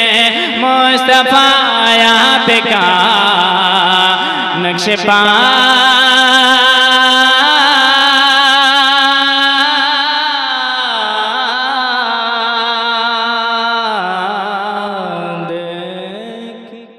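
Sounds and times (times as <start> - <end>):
man singing with vibrato: 0.0 - 16.9.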